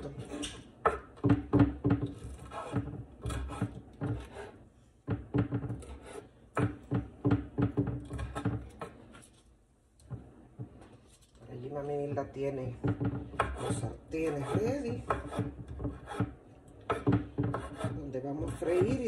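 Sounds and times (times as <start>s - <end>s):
knife chopping on wooden board: 0.0s - 9.3s, 12.8s - 19.0s.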